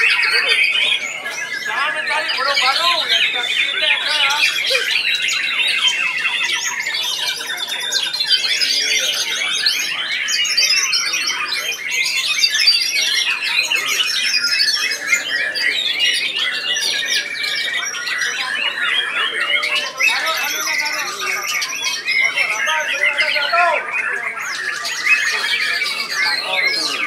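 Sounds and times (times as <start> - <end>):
birds singing whistles and trills: 0.0 - 27.0.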